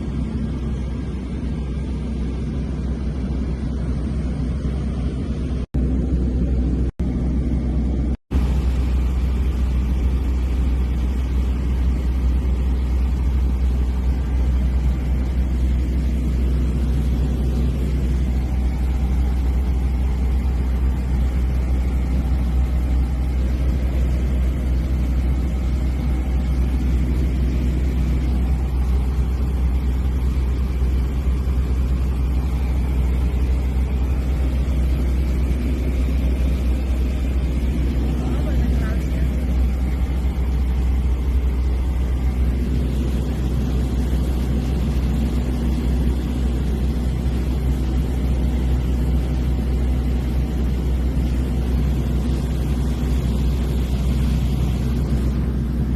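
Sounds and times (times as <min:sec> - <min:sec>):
propeller airplane engine drone: 0:00.0 - 0:55.9
constant hiss: 0:08.4 - 0:55.9.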